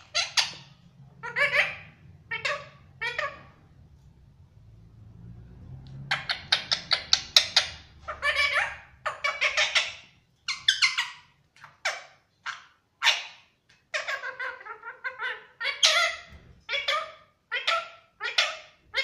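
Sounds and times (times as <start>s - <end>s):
parrot shrill calls: 0.0s - 3.6s, 6.1s - 19.0s.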